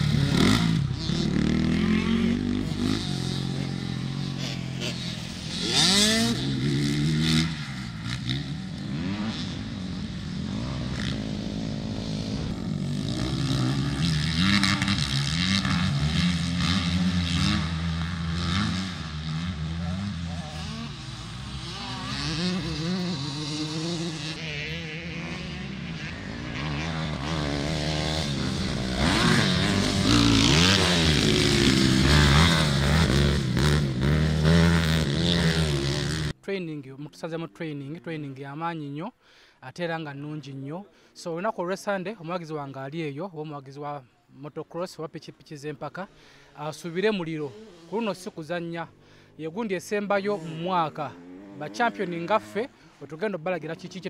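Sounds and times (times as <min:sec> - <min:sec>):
dirt bike engines revving: 0:00.0 - 0:36.4, 0:45.3 - 0:54.0.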